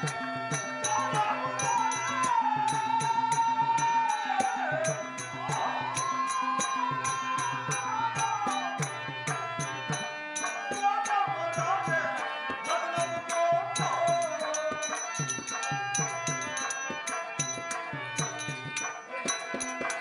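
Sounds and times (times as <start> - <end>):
hand drum beating: 0.0 - 20.0.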